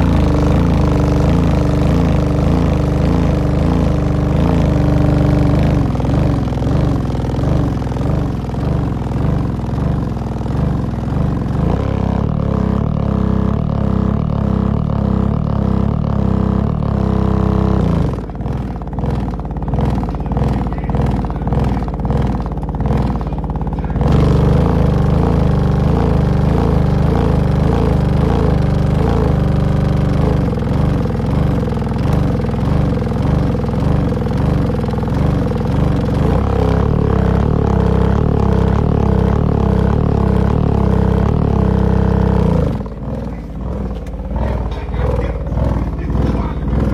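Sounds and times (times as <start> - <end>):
heavy bass from subwoofer: 0.0 - 46.9.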